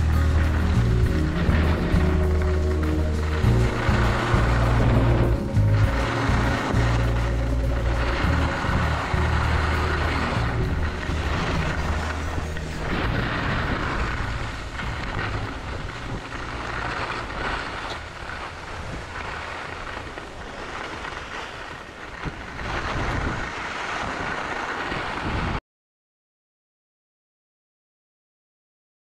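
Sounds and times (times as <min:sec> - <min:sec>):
skis hissing across snow: 0:00.0 - 0:25.6
wind rumbling on microphone: 0:00.0 - 0:25.6.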